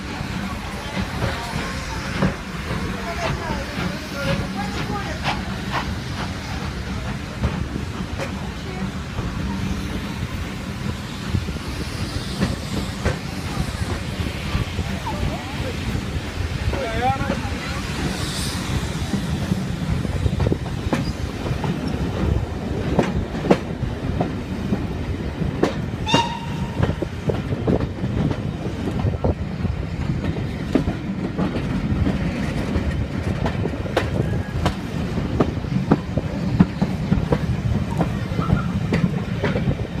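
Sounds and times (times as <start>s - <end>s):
train carriage rumbling: 0.0s - 40.0s
wheels clicking over rail joints: 0.0s - 40.0s.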